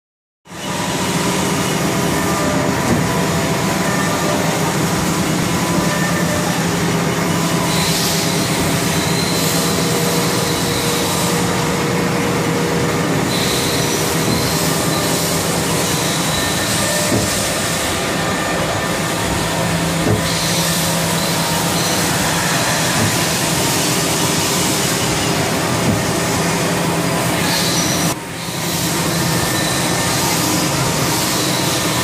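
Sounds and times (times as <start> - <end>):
lathe machine humming: 0.5 - 32.0.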